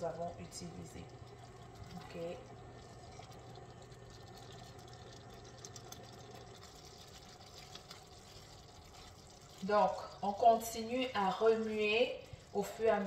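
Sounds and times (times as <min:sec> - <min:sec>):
low steady hum: 0:00.0 - 0:13.0
oil bubbling and popping in pan: 0:00.0 - 0:13.0.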